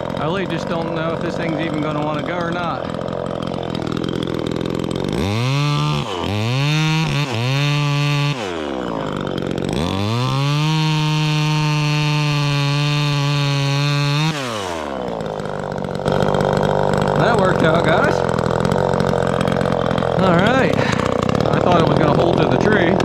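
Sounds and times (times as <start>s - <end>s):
chainsaw cutting a limb: 0.0s - 23.0s.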